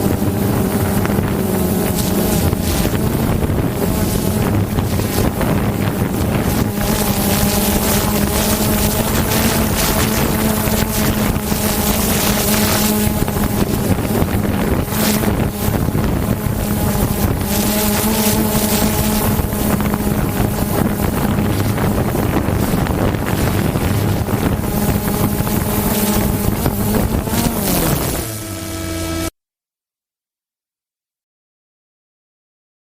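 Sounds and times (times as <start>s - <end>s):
drone propellers humming: 0.0s - 29.3s
wind on microphone: 0.0s - 29.3s.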